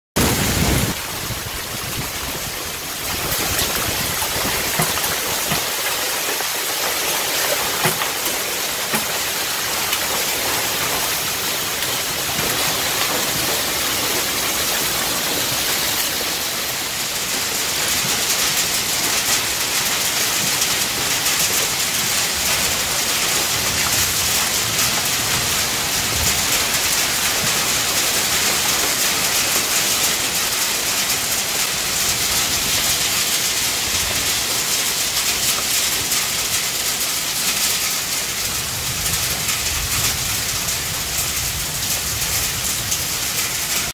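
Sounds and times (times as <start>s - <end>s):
heavy rain and hail on ground: 0.2s - 43.9s.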